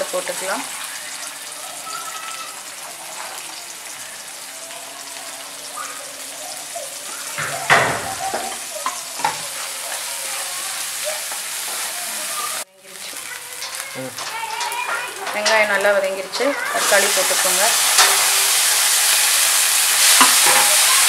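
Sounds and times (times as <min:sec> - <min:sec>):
onion sizzling in hot oil: 0:00.0 - 0:21.0.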